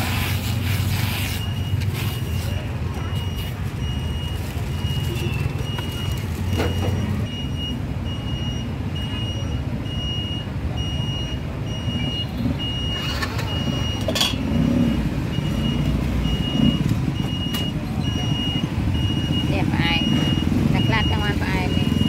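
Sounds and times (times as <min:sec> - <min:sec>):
motor traffic rumble: 0:00.0 - 0:22.0
high electronic beep repeating: 0:01.4 - 0:22.0.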